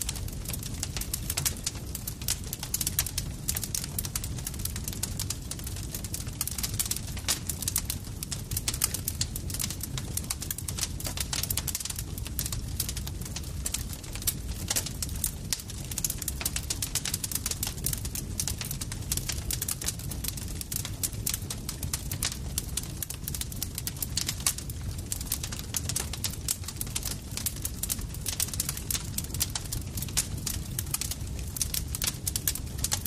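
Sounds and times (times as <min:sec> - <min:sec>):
campfire crackling: 0:00.0 - 0:33.0
low rumble of flames: 0:00.0 - 0:33.0.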